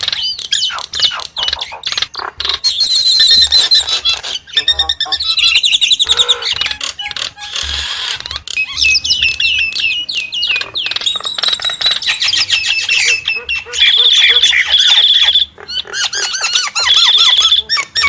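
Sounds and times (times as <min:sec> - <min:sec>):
bird singing varied song: 0:00.0 - 0:18.0.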